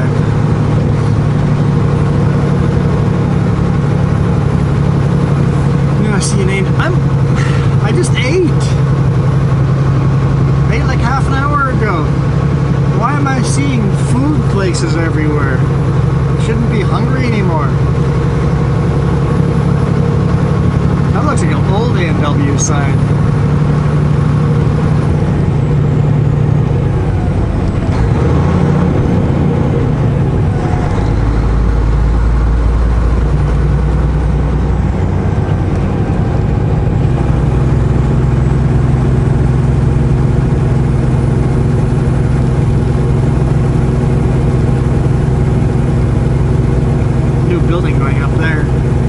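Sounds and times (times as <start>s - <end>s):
deep low drone: 0.0s - 49.0s
diesel truck engine running: 0.0s - 49.0s.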